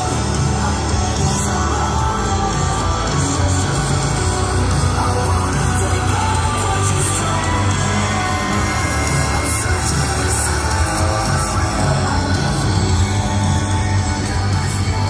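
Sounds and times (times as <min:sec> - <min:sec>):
hard rock music over speakers: 0:00.0 - 0:15.0.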